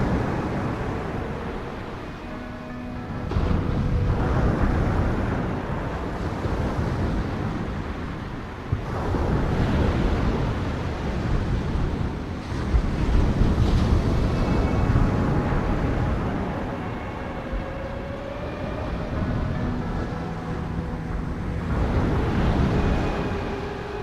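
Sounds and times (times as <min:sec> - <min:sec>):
waves breaking and washing in: 0:00.0 - 0:24.0
wind rumbling on microphone: 0:00.0 - 0:24.0.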